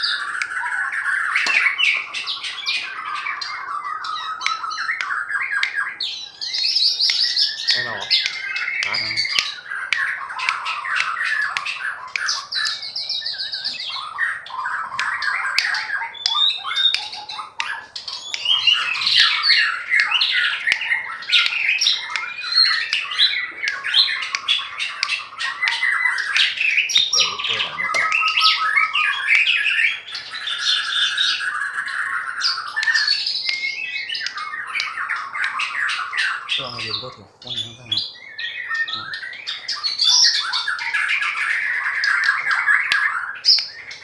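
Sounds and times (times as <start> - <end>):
bird singing whistled notes: 0.0 - 44.0.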